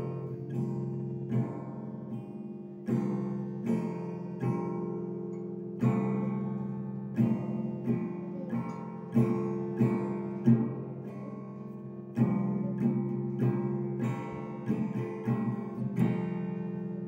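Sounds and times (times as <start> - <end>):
acoustic guitar strumming a chord: 2.8 - 17.0.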